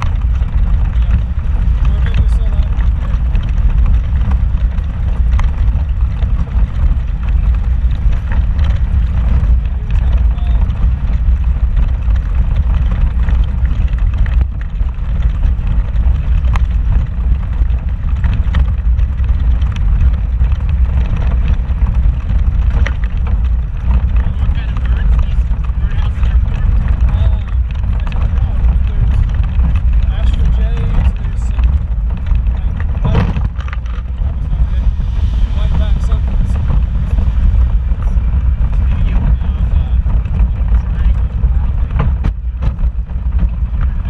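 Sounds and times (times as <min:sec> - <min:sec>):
engine and road rumble: 0:00.0 - 0:44.0
vehicle knocks and rattles: 0:00.0 - 0:44.0.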